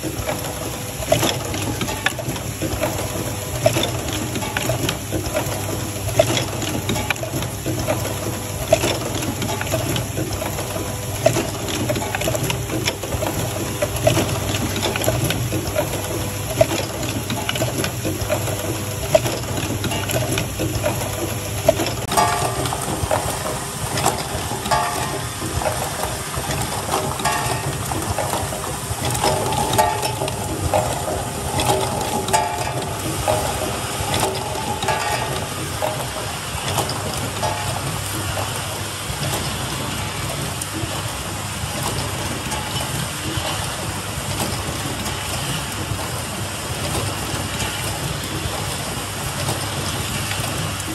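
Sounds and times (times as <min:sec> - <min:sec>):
machine mechanical hum: 0:00.0 - 0:50.9
machine rattling and clicks: 0:00.0 - 0:50.9.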